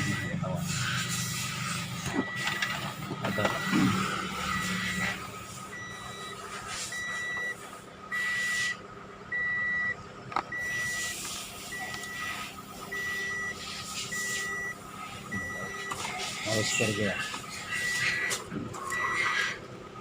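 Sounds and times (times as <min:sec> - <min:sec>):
car warning chime beeping: 0:00.0 - 0:00.6, 0:01.9 - 0:19.5.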